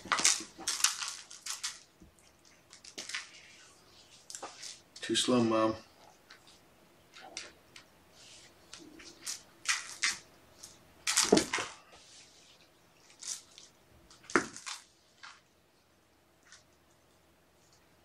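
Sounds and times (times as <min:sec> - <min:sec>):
kittens rustling and scuffling: 0:00.0 - 0:05.1, 0:05.9 - 0:15.5.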